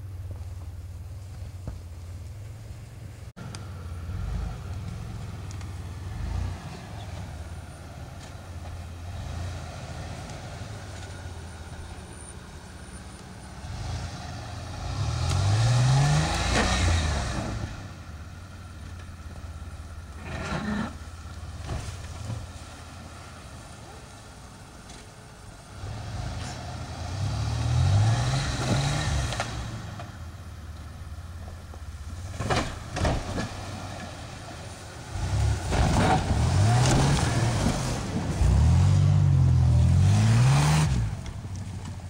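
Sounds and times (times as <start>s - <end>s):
car engine revving: 2.8s - 42.0s.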